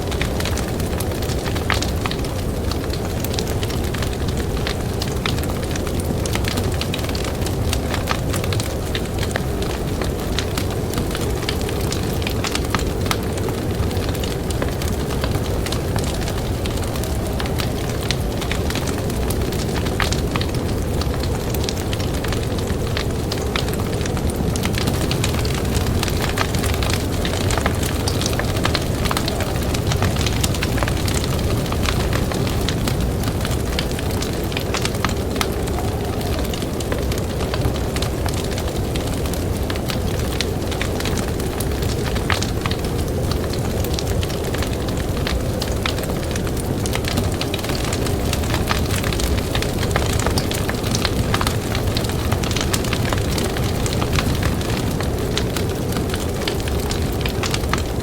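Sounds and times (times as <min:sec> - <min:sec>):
blizzard wind rushing: 0:00.0 - 0:58.0
campfire crackling and popping: 0:00.0 - 0:58.0
steady low rumble: 0:00.0 - 0:58.0.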